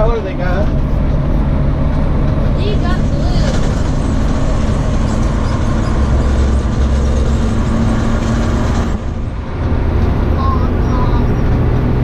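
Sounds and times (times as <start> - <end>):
road noise: 0.0 - 12.0
truck engine running: 0.0 - 12.0.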